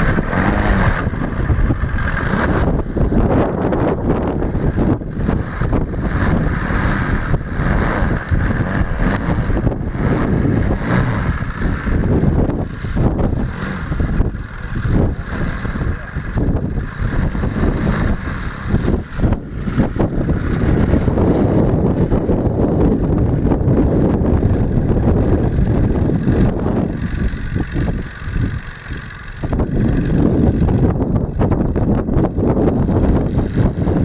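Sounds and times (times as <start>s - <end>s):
model plane engine running: 0.0s - 34.0s.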